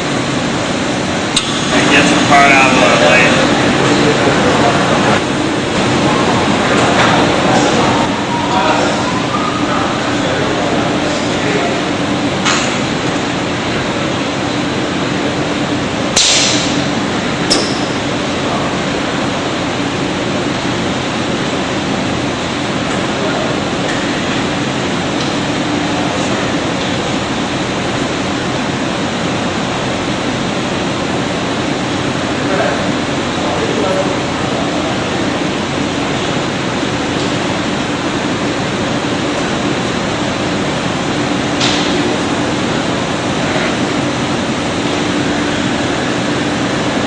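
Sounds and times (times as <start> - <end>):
steady machinery noise: 0.0 - 47.0.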